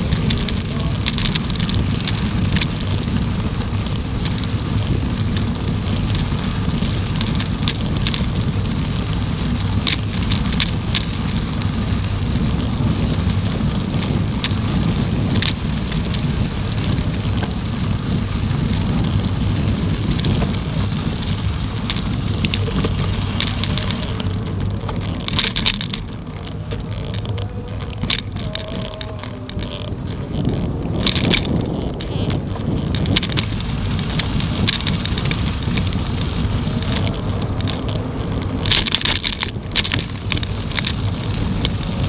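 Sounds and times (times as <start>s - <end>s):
low road rumble: 0.0s - 42.0s
sharp clicks and rattles: 0.0s - 42.0s
wind buffeting microphone: 0.0s - 42.0s.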